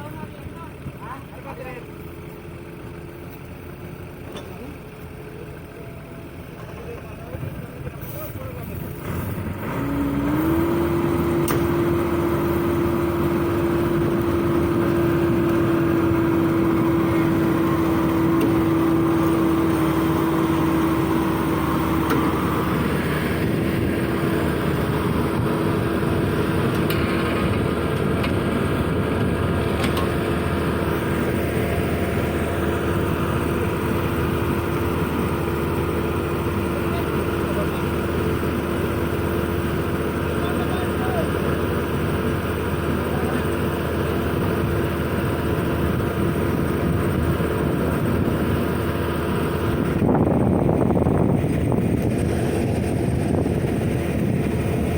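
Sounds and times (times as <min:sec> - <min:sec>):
excavator engine droning: 0:00.0 - 0:54.9.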